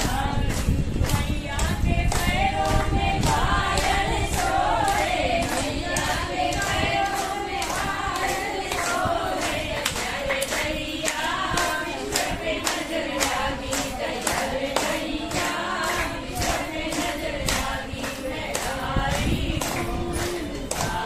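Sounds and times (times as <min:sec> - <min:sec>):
hand claps: 0:00.0 - 0:21.0
women singing together: 0:00.0 - 0:21.0.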